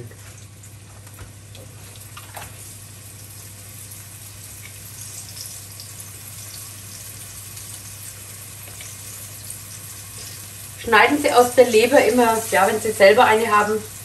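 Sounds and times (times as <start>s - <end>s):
liver sizzling in hot oil: 0.4s - 14.0s.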